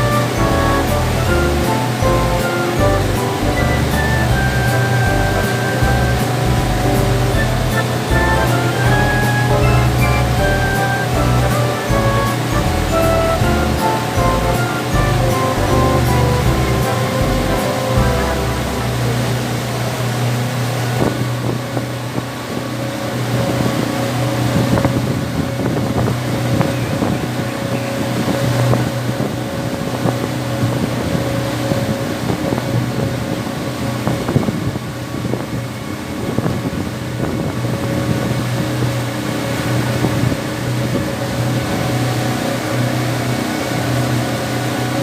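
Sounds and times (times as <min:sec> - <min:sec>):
boat engine running: 0:00.0 - 0:45.0
water noise: 0:00.0 - 0:45.0
wind: 0:00.0 - 0:45.0.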